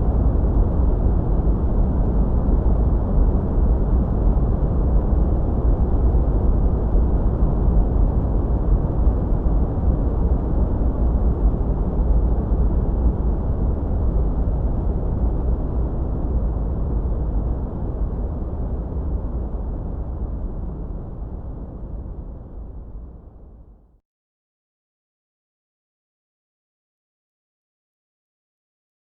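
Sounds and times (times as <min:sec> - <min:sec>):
deep white noise: 0:00.0 - 0:23.6.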